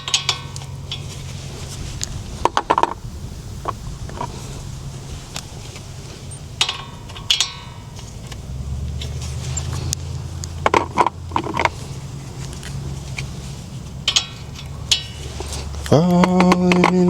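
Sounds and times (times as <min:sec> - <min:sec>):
hand tools clinking on metal: 0:00.0 - 0:03.0, 0:03.6 - 0:17.0.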